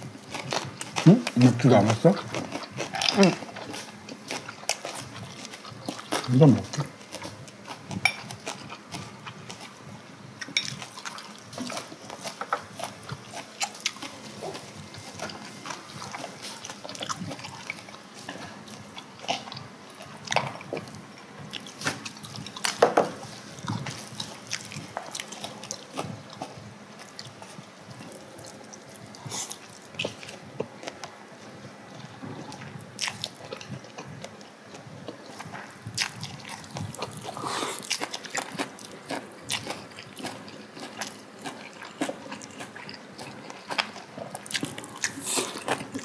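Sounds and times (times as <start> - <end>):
chewing and slurping noodles: 0.0 - 46.0.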